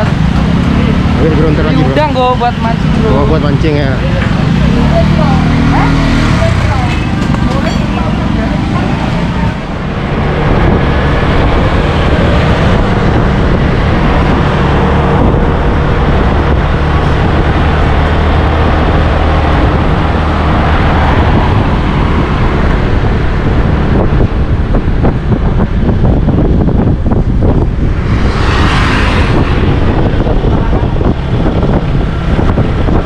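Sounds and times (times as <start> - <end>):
vehicle road noise: 0.0 - 33.0
wind noise on microphone: 0.0 - 33.0.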